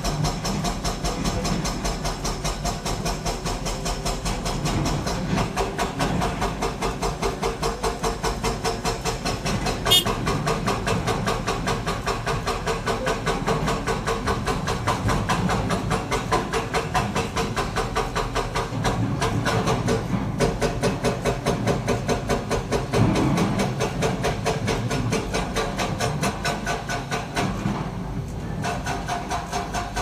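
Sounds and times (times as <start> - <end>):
excavator diesel engine under load: 0.0 - 30.0.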